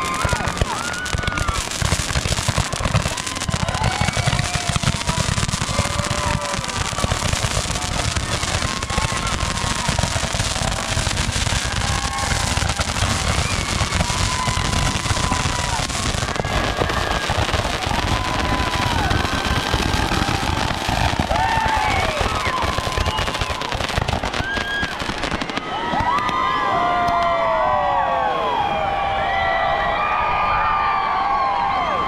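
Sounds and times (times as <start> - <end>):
firework whistles: 0.0 - 26.3
firework pops and crackles: 0.0 - 27.3.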